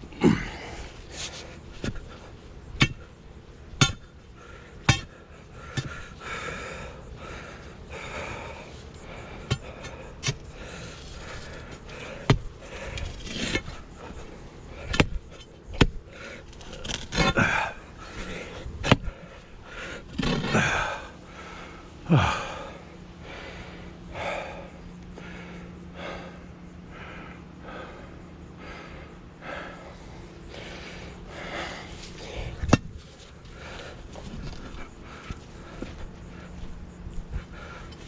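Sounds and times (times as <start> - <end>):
man breathing hard and gasping: 0.0 - 3.2, 4.2 - 38.0.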